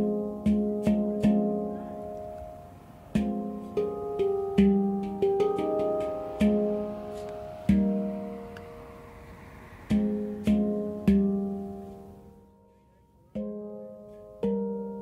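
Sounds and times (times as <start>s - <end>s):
handpan notes ringing: 0.0s - 15.0s.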